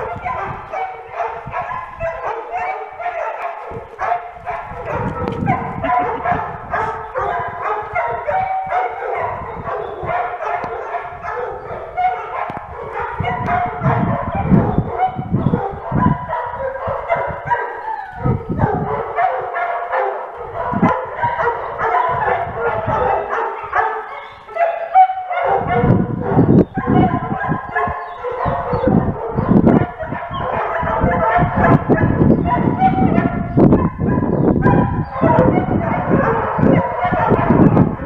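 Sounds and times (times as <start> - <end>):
dogs barking and yipping: 0.0 - 38.0.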